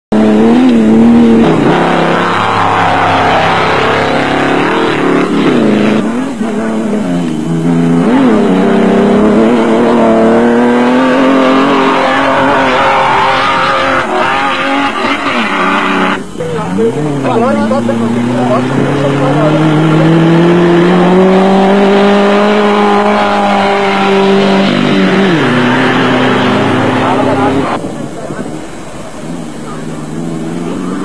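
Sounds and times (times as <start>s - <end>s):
racing engines revving: 0.1s - 31.0s
vehicles passing: 0.1s - 31.0s.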